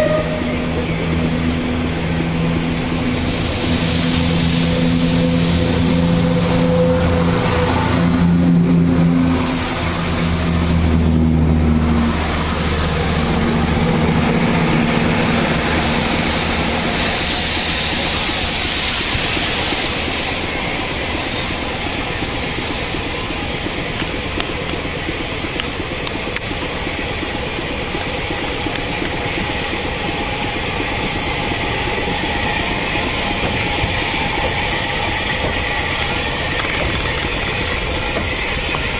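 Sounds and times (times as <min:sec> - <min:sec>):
broad hiss of train: 0:00.0 - 0:38.9
train engine drone: 0:00.0 - 0:38.9.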